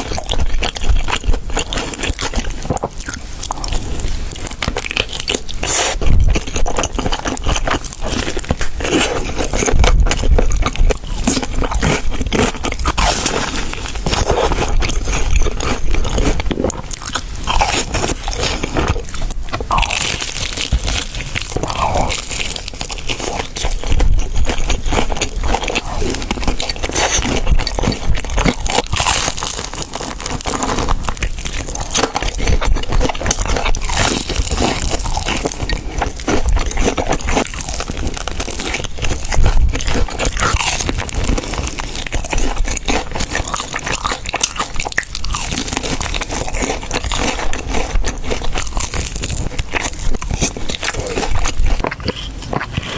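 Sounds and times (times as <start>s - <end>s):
crunchy food being chewed: 0.0s - 52.9s.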